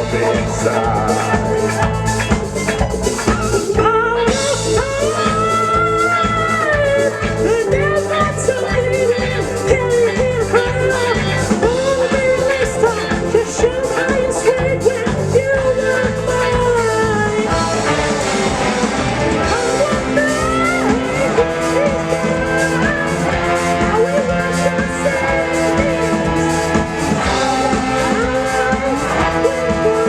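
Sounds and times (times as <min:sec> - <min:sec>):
bass guitar: 0:00.0 - 0:30.0
drum kit: 0:00.0 - 0:30.0
guitar lead melody: 0:00.0 - 0:30.0.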